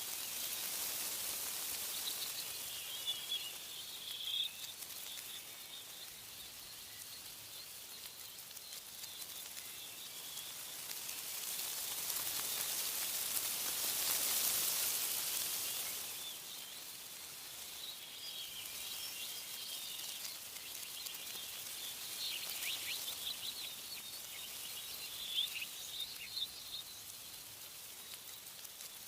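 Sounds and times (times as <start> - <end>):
small birds chirping: 0.0 - 29.0
wind rustling tree leaves: 0.0 - 29.0.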